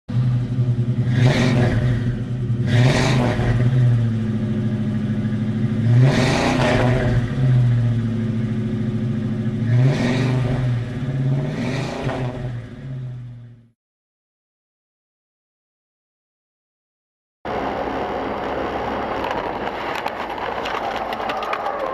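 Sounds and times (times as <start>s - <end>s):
car engine humming: 0.1s - 13.7s, 17.5s - 21.9s.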